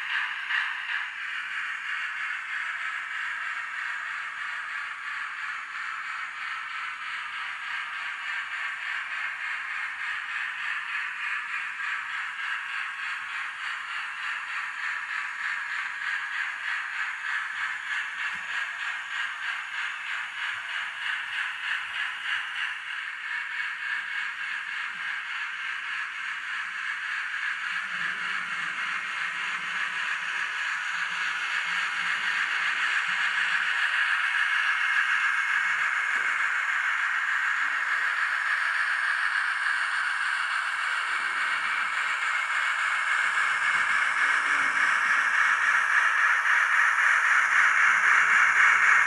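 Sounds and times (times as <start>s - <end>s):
model train motor and wheels whirring: 0.0s - 49.0s.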